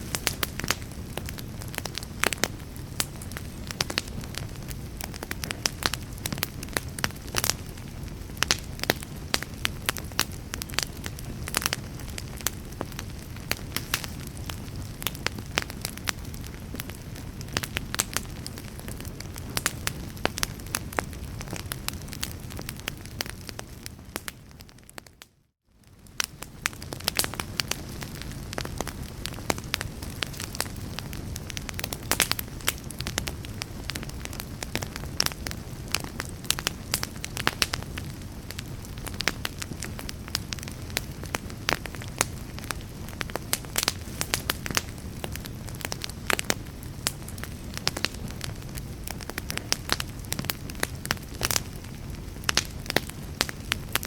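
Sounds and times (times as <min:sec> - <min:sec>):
flames rumbling: 0:00.0 - 0:54.0
wood fire crackling and popping: 0:00.0 - 0:54.0.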